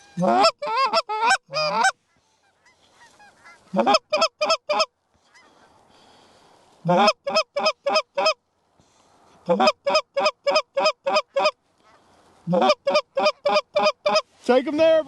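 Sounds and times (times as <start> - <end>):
goose call honks: 0.0 - 5.7, 6.8 - 8.4, 9.5 - 14.3
goose call clucks: 0.0 - 5.8, 6.8 - 8.4, 9.5 - 14.3.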